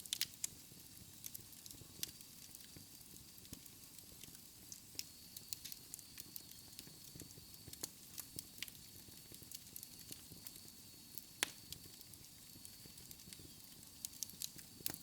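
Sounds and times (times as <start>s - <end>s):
flames hissing: 0.0s - 15.0s
wood fire crackling and popping: 0.0s - 15.0s.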